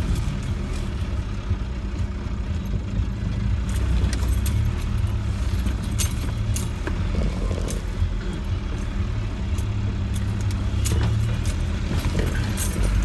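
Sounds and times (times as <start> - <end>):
car engine running: 0.0 - 13.0
sharp clicks and rattles: 2.0 - 13.0.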